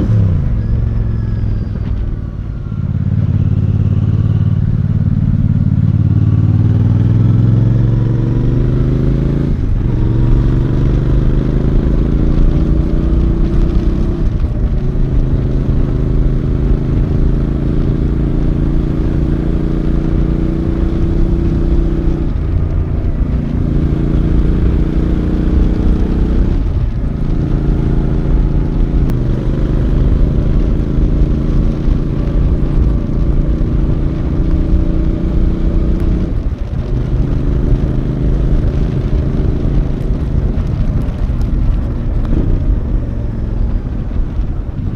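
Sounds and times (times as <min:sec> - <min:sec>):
gear changes: 0:00.0 - 0:44.9
motorcycle engine revving: 0:00.0 - 0:44.9.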